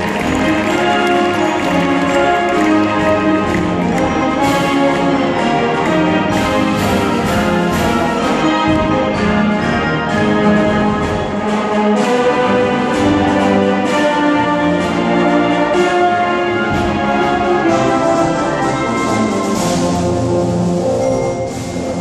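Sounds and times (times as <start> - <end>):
concert band playing: 0.0 - 22.0.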